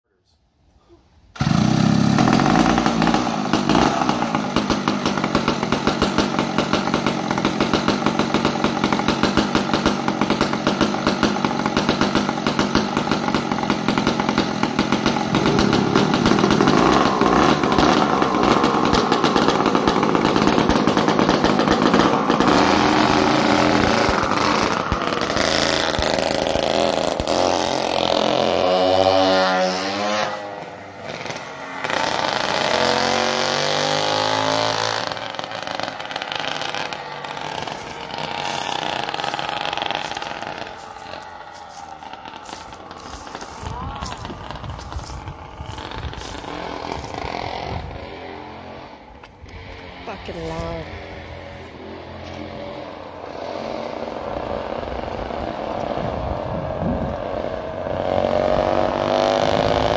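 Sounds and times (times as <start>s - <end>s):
go-kart engines running: 1.4s - 59.9s.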